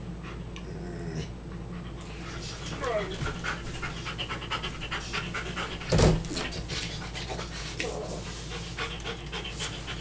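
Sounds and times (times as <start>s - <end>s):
dog panting: 1.5s - 10.0s.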